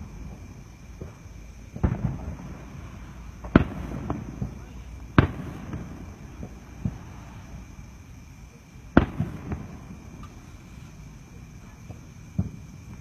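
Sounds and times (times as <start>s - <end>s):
fireworks bangs: 0.0s - 13.0s
fireworks popping: 0.0s - 13.0s.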